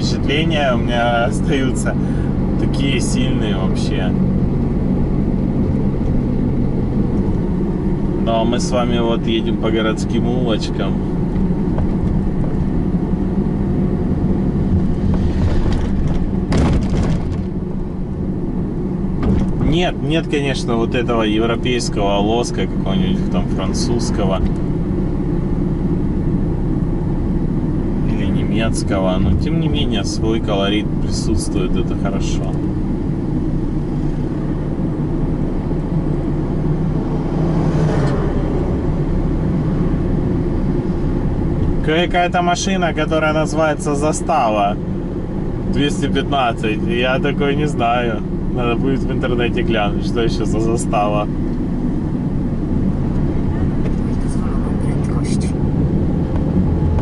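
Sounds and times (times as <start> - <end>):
van engine and road rumble: 0.0 - 57.0.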